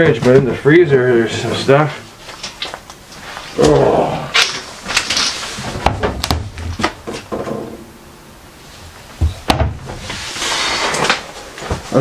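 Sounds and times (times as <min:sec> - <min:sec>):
rustling and shuffling: 0:00.0 - 0:07.9, 0:08.5 - 0:12.0.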